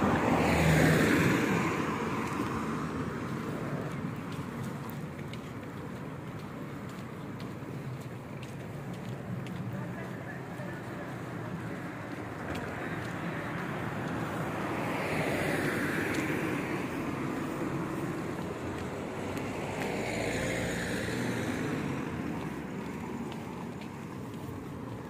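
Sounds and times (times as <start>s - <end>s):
passing cars: 0.0s - 25.0s.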